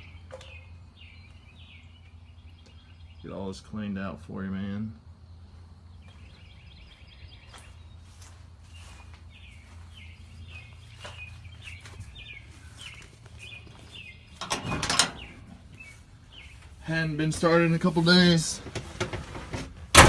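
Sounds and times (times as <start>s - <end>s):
bird chirping: 0.0s - 18.6s.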